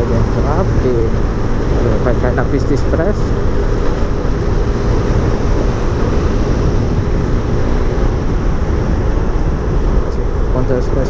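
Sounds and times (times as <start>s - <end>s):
motorcycle engine running: 0.0s - 11.0s
wind rush over microphone: 0.0s - 11.0s.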